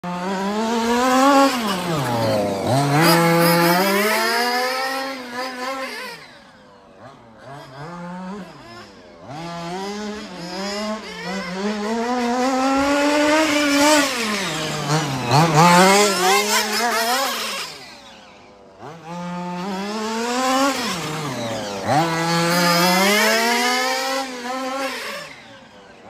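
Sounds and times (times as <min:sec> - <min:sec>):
small two-stroke engine revving: 0:00.0 - 0:26.0.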